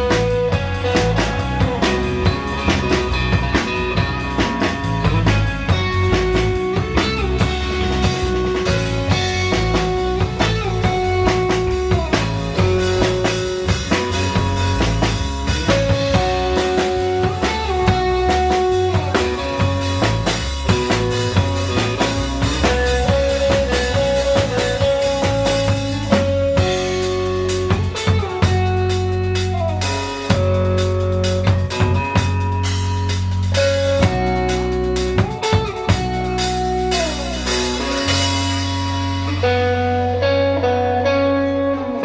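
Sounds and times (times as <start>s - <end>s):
drum-kit beat: 0.0s - 39.8s
bass: 0.0s - 42.0s
electric guitar melody: 0.0s - 42.0s.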